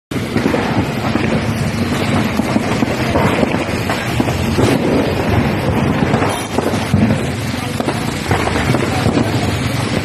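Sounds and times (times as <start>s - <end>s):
wind buffeting microphone: 0.2s - 10.0s.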